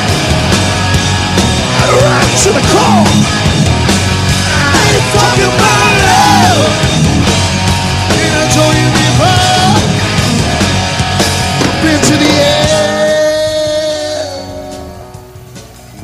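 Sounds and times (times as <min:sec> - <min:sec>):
bass guitar: 0:00.0 - 0:16.0
distorted electric guitar: 0:00.0 - 0:16.0
drums: 0:00.0 - 0:16.0.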